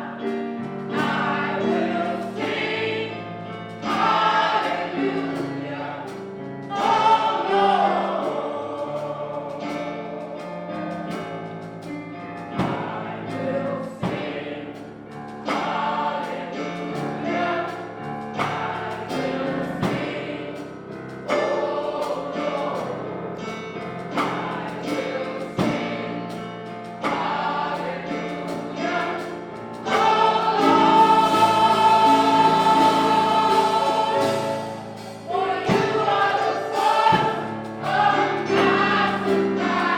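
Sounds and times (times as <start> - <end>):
gospel choir with instruments: 0.0 - 39.9.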